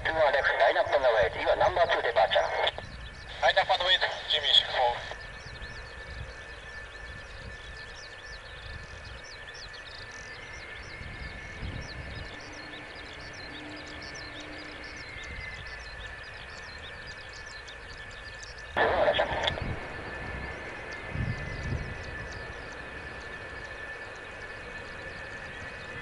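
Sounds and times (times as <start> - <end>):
distant jet engines whining: 0.0 - 26.0.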